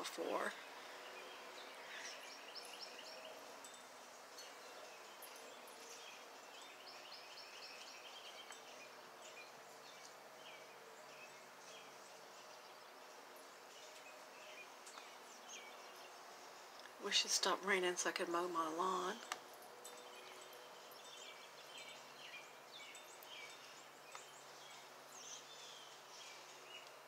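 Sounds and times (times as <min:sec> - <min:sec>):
distant birds chirping: 0:00.0 - 0:27.0.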